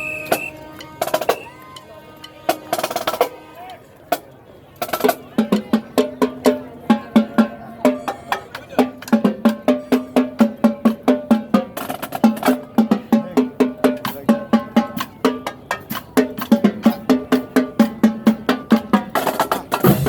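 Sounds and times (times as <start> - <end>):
marching band percussion: 0.0 - 20.0.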